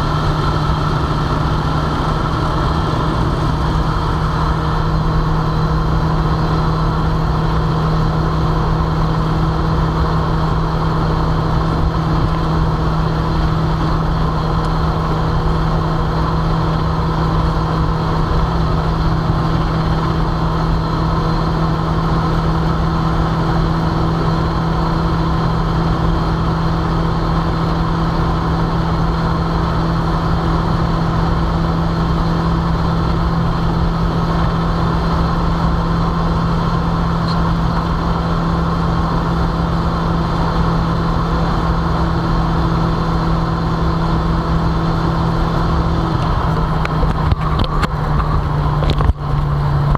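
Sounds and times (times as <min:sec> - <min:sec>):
car engine high-rpm drone: 0:00.0 - 0:49.9
road and wind noise: 0:00.0 - 0:49.9.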